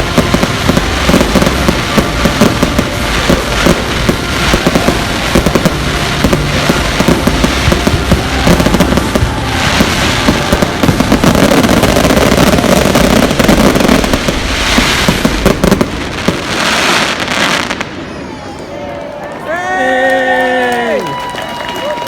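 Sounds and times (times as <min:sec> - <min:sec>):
fireworks bangs and crackles: 0:00.0 - 0:18.7.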